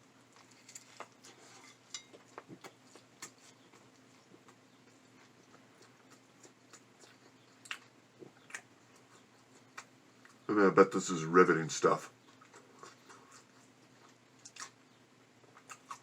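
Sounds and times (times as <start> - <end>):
person chewing with mouth open: 0.0 - 10.5, 12.2 - 16.0
faint low hum: 0.0 - 16.0.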